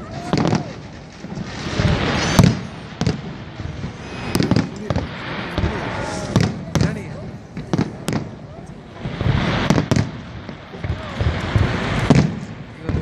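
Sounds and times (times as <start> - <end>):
fireworks booming: 0.0 - 13.0
fireworks crackling hiss: 0.0 - 13.0.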